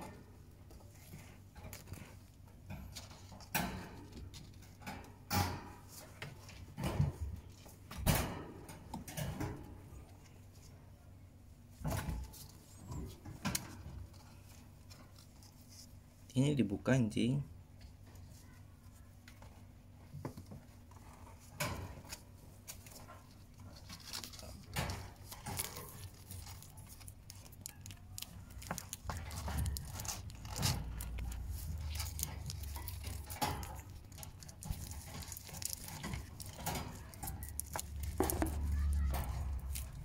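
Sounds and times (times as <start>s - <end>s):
kittens moving in wire cage: 0.0s - 16.3s, 17.7s - 40.0s.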